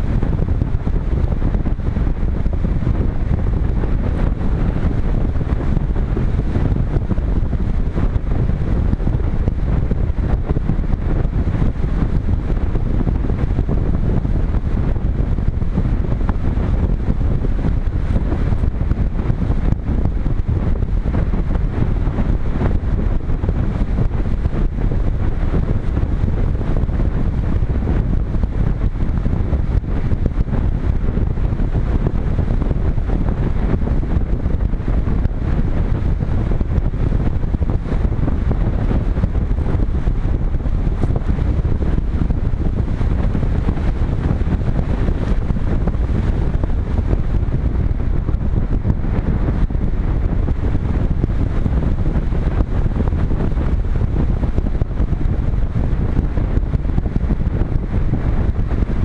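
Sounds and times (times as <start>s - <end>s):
wind noise over camera: 0.0s - 59.0s.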